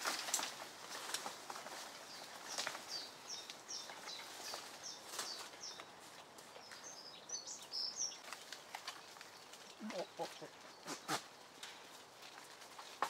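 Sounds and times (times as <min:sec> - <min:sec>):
songbird chirping: 0:00.2 - 0:13.0.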